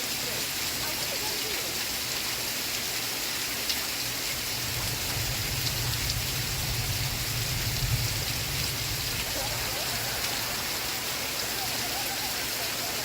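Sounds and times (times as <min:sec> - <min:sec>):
rain drop ticks: 0:00.0 - 0:13.0
steady rain falling: 0:00.0 - 0:13.0.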